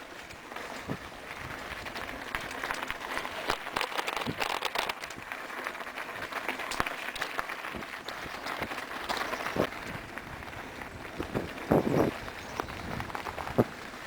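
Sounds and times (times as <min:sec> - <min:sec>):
bike clicks and rattles: 0:00.0 - 0:14.0
tyres crunching over stones: 0:00.0 - 0:14.0.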